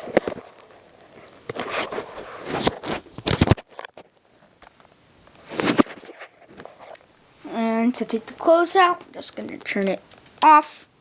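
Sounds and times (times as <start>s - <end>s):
rustling and handling noises: 0.0s - 10.6s.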